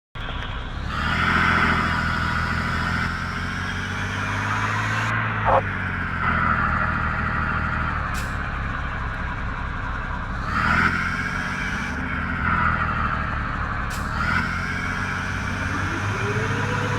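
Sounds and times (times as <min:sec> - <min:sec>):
truck engine running: 0:00.2 - 0:16.9.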